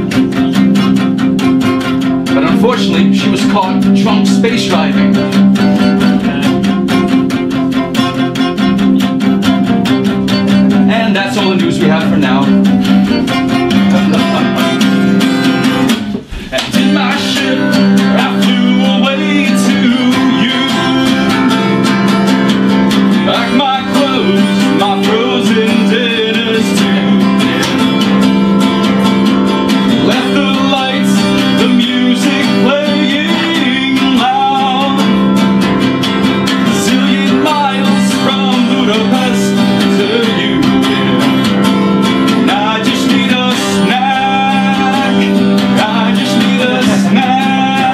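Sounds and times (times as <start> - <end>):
strummed guitar: 0.0 - 47.9.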